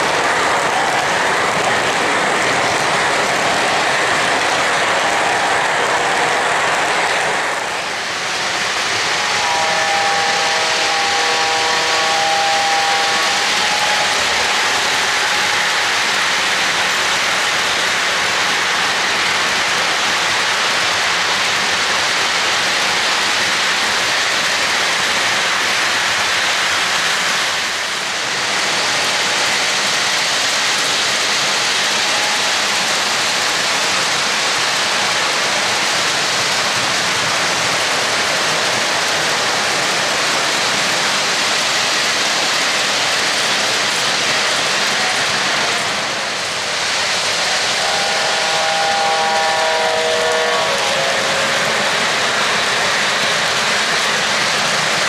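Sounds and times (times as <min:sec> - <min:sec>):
model train rolling on track: 0:00.0 - 0:55.0.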